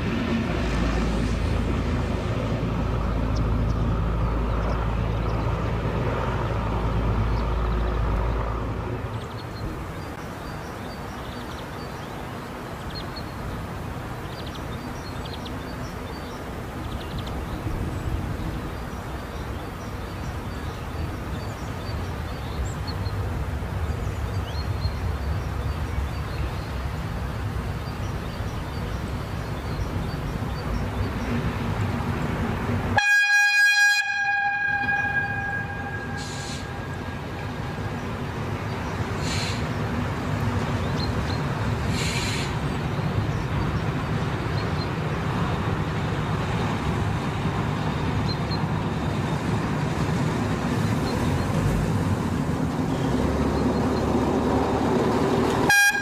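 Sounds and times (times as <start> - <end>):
diesel railbus passing: 0.0 - 56.0
birds chirping: 2.3 - 32.8, 34.1 - 56.0.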